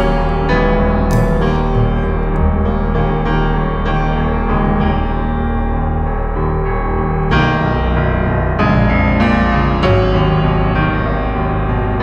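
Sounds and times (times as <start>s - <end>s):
dark ambient keyboard music: 0.0s - 12.0s.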